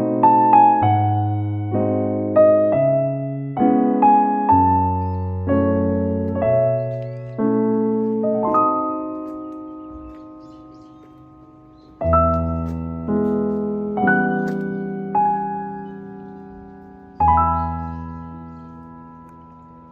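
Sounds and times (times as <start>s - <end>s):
gentle piano music: 0.0s - 19.9s.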